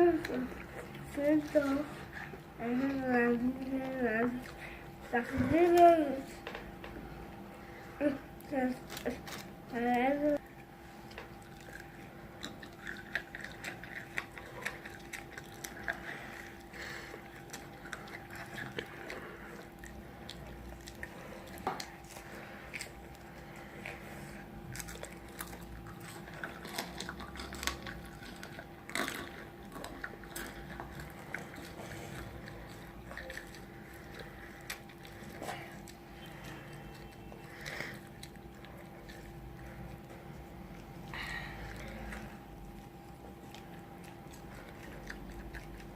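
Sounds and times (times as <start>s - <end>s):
chewing crunchy food: 0.0s - 45.9s
faint steady hum: 0.0s - 45.9s.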